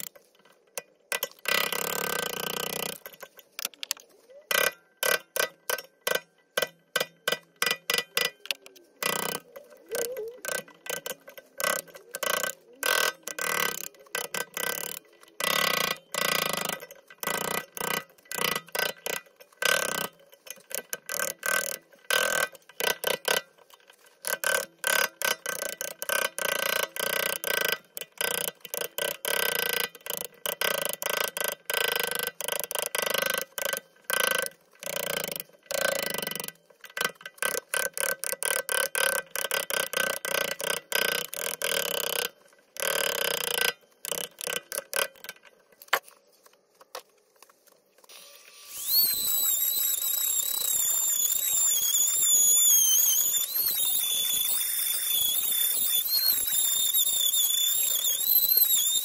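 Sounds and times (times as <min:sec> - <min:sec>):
rotary tool grinding wood: 0:00.0 - 0:59.0.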